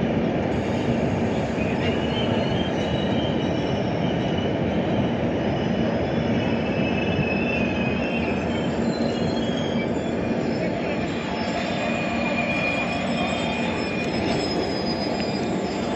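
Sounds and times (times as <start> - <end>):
train rumbling on rails: 0.0 - 15.9
wheel squeal: 0.6 - 15.9.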